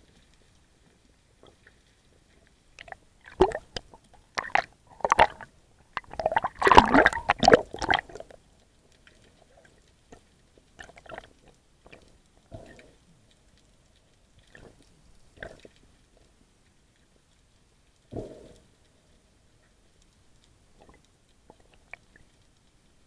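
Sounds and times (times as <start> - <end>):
underwater crackling clicks and scrapes: 0.0 - 23.0.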